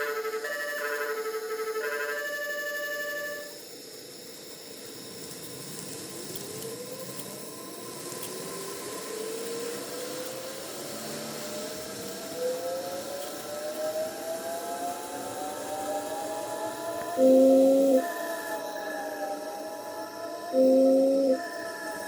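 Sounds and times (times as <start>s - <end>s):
model train motor whine: 0.0s - 22.0s.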